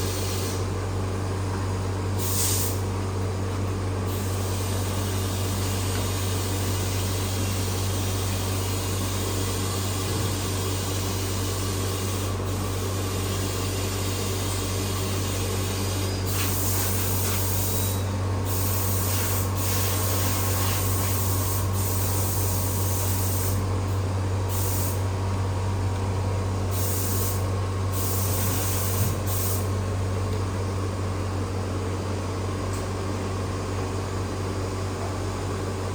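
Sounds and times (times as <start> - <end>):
machine hum and hiss: 0.0 - 35.9.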